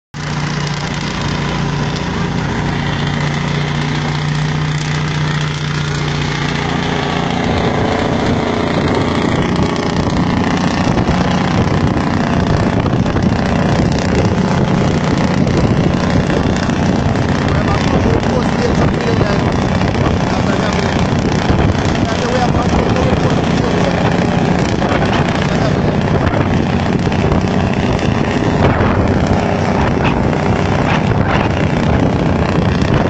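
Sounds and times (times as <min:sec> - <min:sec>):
car engine hum: 0:00.2 - 0:33.0
road and wind noise: 0:00.2 - 0:33.0.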